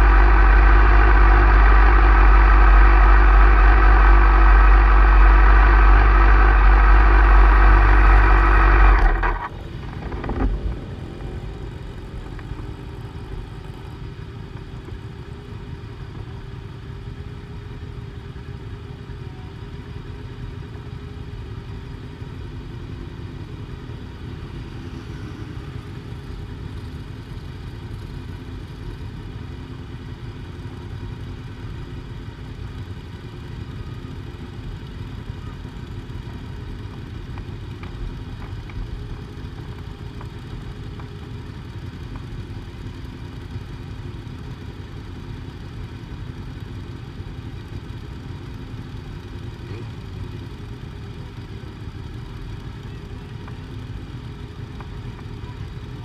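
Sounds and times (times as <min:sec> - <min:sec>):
motorcycle engine idling: 0:00.0 - 0:56.0
other motorcycles idling nearby: 0:00.0 - 0:56.0.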